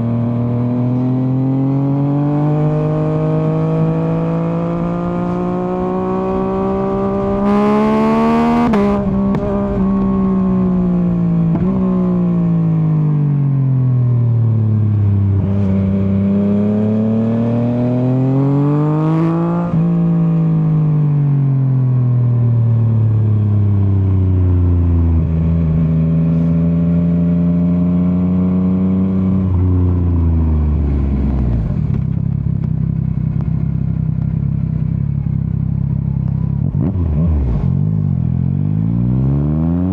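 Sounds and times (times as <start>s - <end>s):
motorcycle engine revving: 0.0s - 12.8s, 14.9s - 20.8s, 23.7s - 39.9s.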